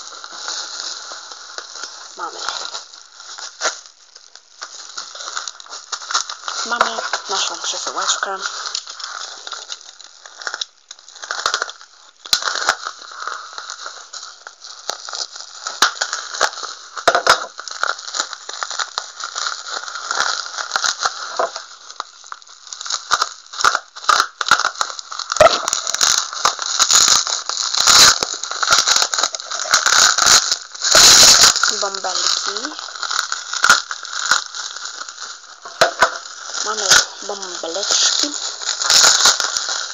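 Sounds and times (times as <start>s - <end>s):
bubble wrap crinkling: 0.0s - 39.9s
bubble wrap snapping: 0.0s - 39.9s.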